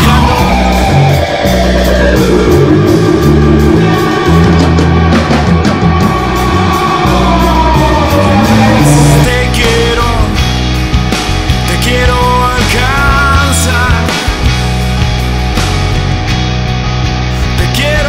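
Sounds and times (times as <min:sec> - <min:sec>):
bass guitar: 0:00.0 - 0:18.0
distorted electric guitar: 0:00.0 - 0:18.0.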